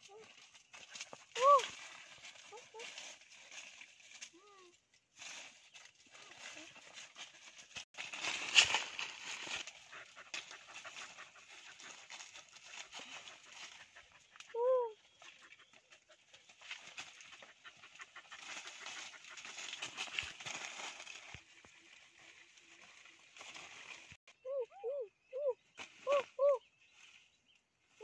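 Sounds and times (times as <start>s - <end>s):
leaves and branches rustling: 0.0s - 24.4s, 25.6s - 28.0s.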